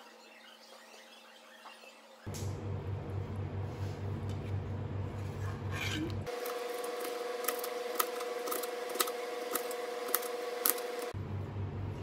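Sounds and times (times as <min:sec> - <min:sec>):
steady hum: 0:02.3 - 0:12.0.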